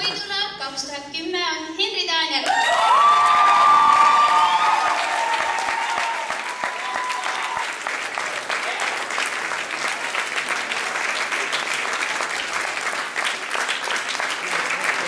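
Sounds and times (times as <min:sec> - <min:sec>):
audience applauding: 0:02.4 - 0:15.0.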